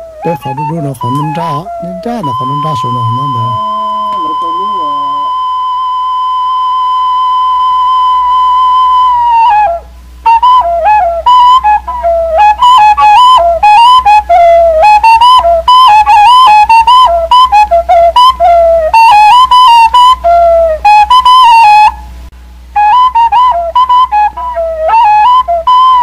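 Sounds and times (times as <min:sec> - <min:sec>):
solo flute: 0:00.0 - 0:26.0.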